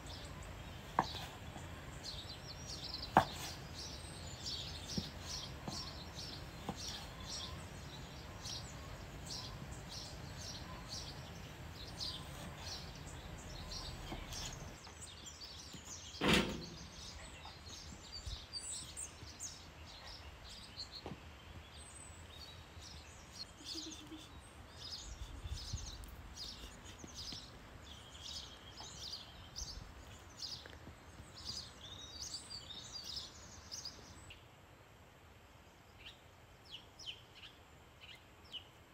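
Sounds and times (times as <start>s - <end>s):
small birds chirping: 0.0s - 34.6s.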